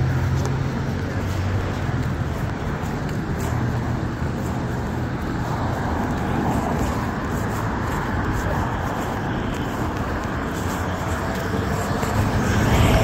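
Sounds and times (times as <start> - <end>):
car engines humming: 0.0 - 13.0
road traffic noise: 0.0 - 13.0.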